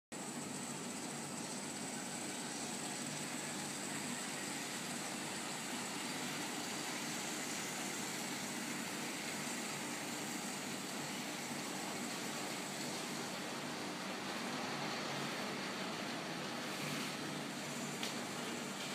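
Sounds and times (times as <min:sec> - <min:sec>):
model trains running on rails: 0:00.2 - 0:18.9.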